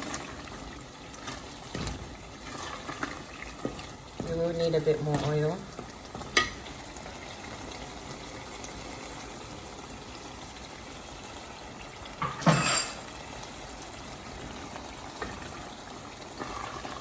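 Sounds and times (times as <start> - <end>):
stew bubbling and sizzling in a pot: 0.0 - 17.0.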